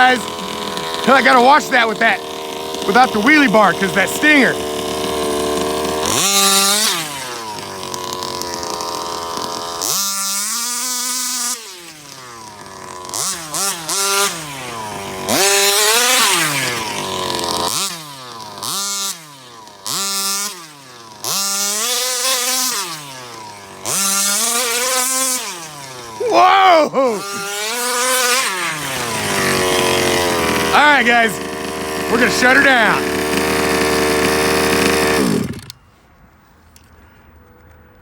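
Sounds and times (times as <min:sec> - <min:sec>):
model car engine revving: 0:00.0 - 0:35.8.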